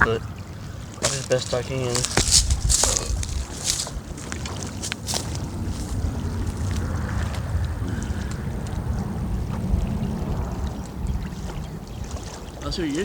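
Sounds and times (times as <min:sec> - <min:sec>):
faint water wash: 0:00.0 - 0:13.0
wind buffeting microphone: 0:00.1 - 0:13.0.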